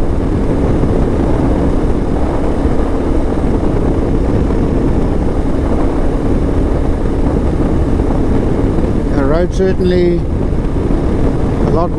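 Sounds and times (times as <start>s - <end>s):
motorcycle engine running: 0.0s - 11.9s
wind noise on microphone: 0.0s - 11.9s.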